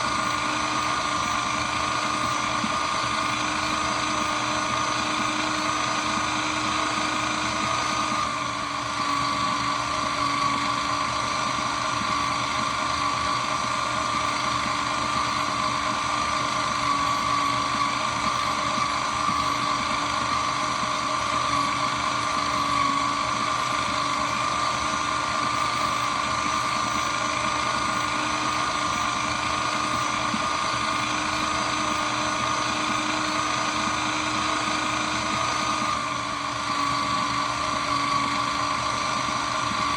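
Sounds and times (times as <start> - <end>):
shredder whining hum: 0.0 - 39.9.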